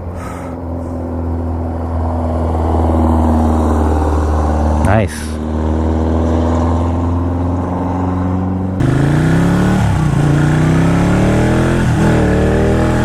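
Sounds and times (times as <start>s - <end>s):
motorcycle engine revving: 0.8s - 13.0s.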